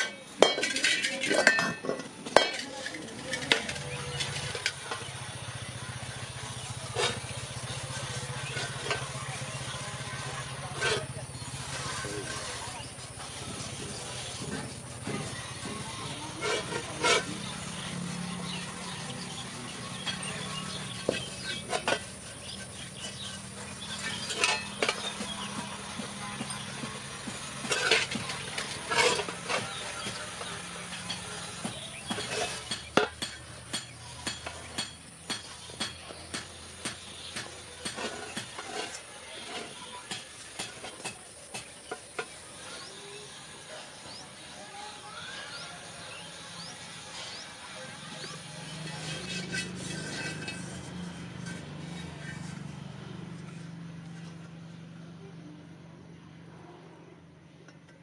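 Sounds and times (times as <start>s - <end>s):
metal scraping on metal pan: 0.0s - 42.8s, 47.2s - 53.6s.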